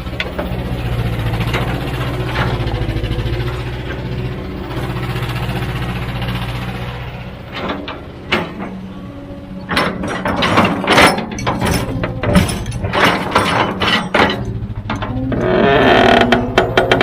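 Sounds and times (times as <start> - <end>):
diesel engine running: 0.0 - 17.0
metallic clanks and rattles: 0.0 - 17.0.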